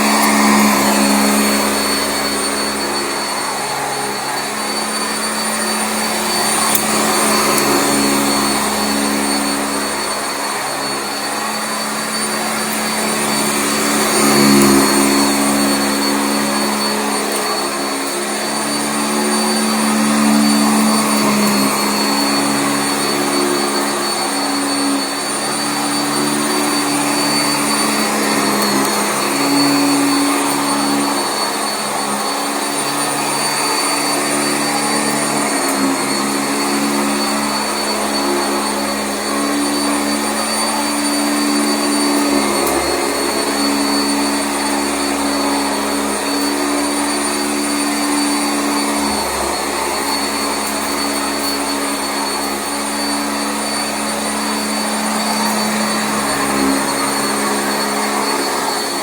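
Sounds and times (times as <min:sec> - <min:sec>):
vacuum cleaner running on carpet: 0:00.0 - 0:59.0.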